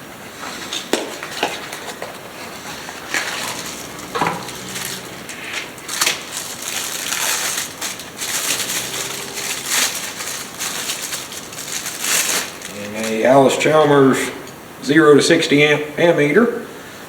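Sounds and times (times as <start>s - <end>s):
packing paper rustling and crumpling: 0.5s - 14.4s.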